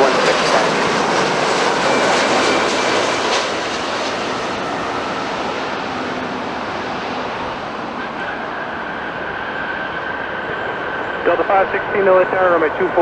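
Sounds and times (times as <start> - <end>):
jet airliner engines rushing: 0.0 - 13.0.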